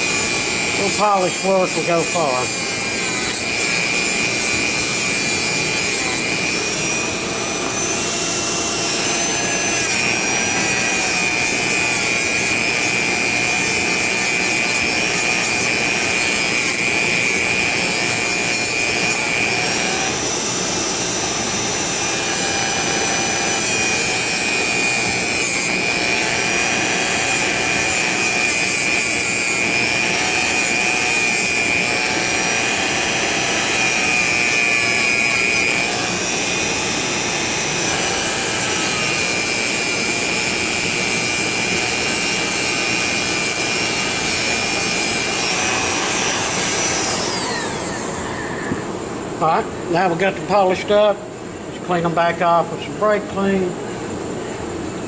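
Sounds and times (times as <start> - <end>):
rotary tool high whine: 0.0 - 55.0.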